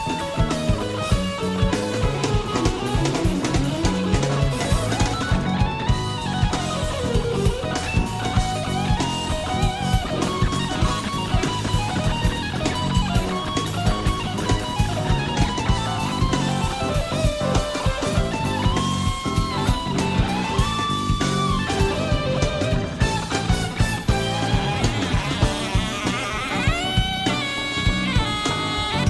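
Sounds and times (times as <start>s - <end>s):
bass: 0.0s - 29.0s
drum kit beat: 0.0s - 29.0s
electric guitar lead: 0.0s - 29.0s
keyboards: 0.0s - 29.0s.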